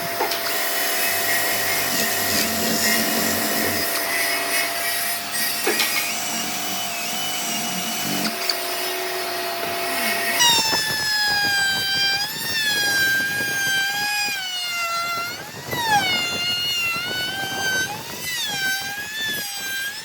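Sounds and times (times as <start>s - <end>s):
power tool motor whine: 0.0s - 20.0s.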